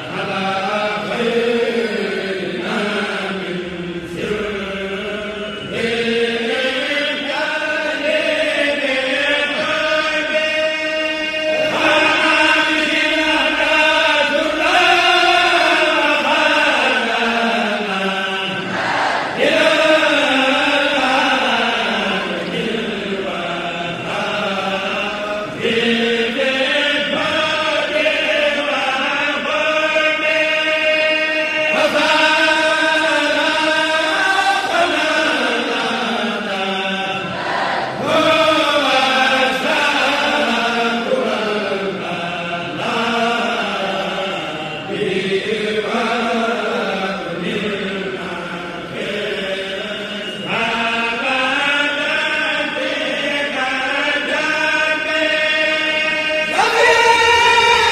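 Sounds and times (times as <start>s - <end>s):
voices chanting unaccompanied: 0.0s - 57.9s.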